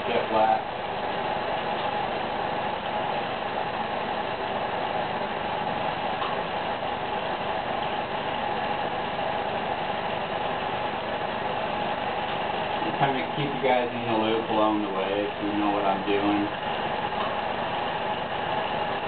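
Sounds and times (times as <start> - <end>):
torch flame hissing: 0.0 - 19.0.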